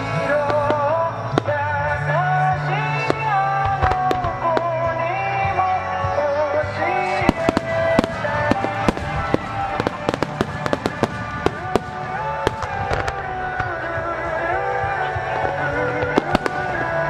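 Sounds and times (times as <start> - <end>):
fireworks bursting with bangs: 0.0 - 17.0
music: 0.0 - 17.0.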